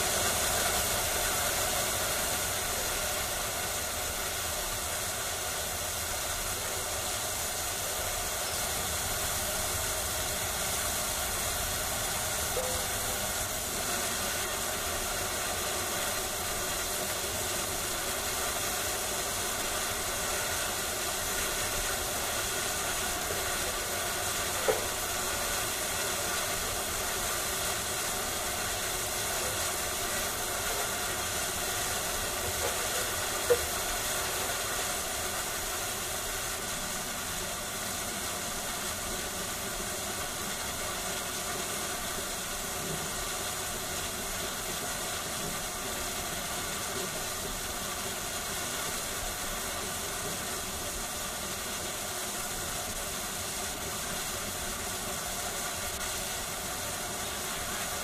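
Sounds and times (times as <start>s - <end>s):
steam locomotive hissing steam: 0.0s - 58.0s.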